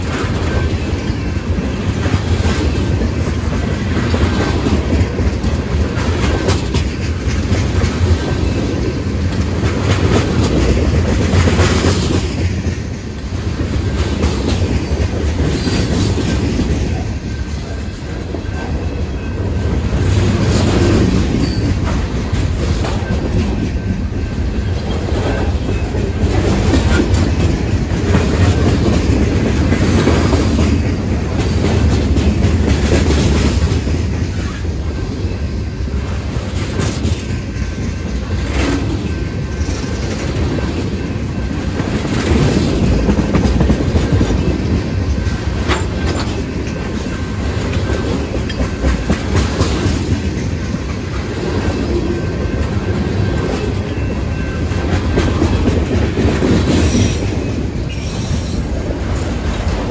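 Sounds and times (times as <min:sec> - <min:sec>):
clickety-clack over rail joints: 0:00.0 - 0:59.9
steel wheels rumbling on rail: 0:00.0 - 0:59.9.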